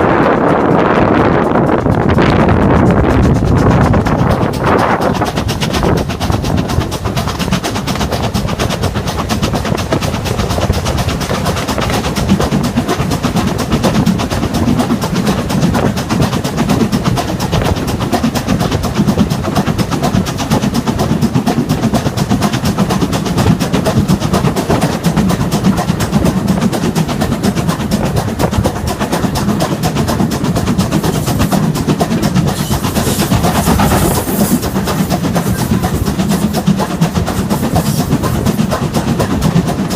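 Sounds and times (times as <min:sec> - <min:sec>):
steam train rhythmic clatter: 0:00.0 - 0:39.9.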